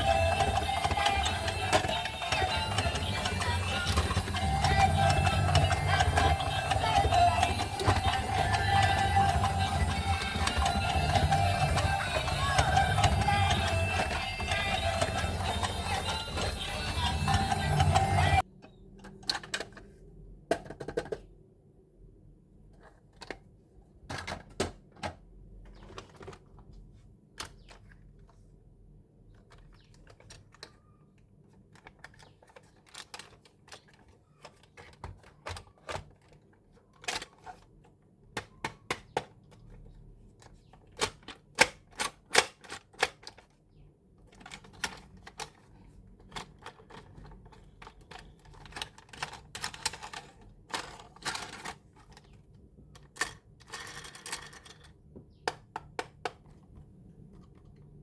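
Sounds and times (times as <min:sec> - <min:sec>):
plastic toy and packaging clicks: 0:00.0 - 0:18.4, 0:19.0 - 0:19.9, 0:29.3 - 0:58.0.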